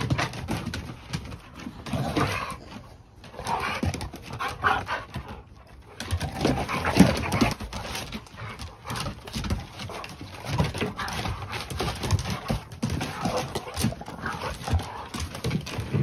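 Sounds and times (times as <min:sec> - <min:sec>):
paws scuffling on wooden deck: 0:00.0 - 0:16.0
dogs growling: 0:01.6 - 0:16.0.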